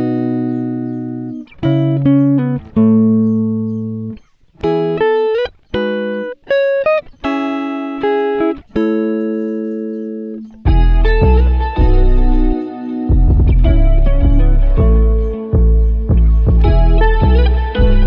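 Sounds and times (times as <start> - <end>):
slow guitar melody: 0.0 - 18.0.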